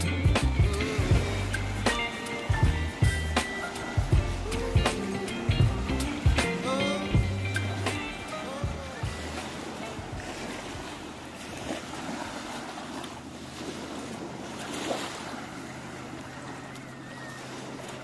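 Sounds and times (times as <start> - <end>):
small waves lapping on sand: 0.0 - 18.0.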